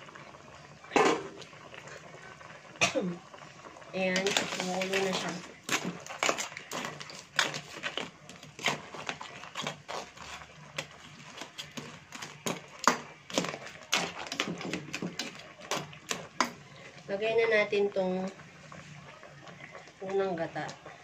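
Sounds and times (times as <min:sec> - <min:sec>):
broth boiling: 0:00.0 - 0:21.0.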